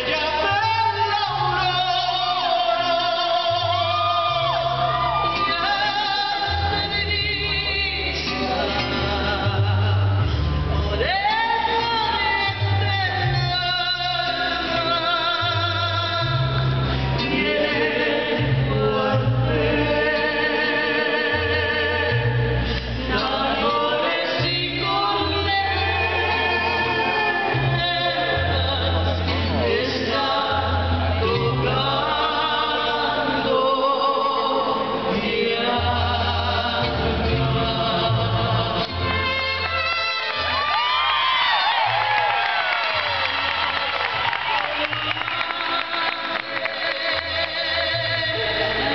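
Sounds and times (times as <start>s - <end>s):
voices singing with vibrato: 0.0s - 10.1s, 10.9s - 48.9s
bass line: 0.0s - 48.9s
mariachi band playing: 0.0s - 48.9s.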